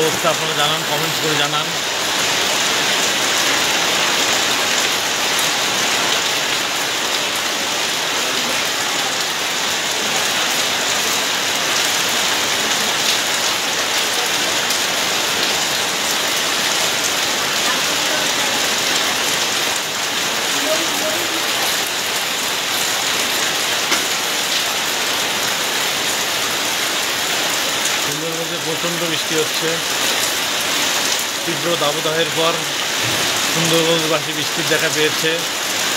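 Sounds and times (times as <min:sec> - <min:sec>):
rain falling steadily: 0:00.0 - 0:35.9.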